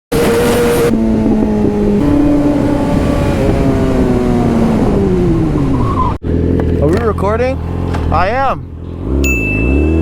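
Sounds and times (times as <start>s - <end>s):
motorcycle engine revving: 0.1s - 10.0s.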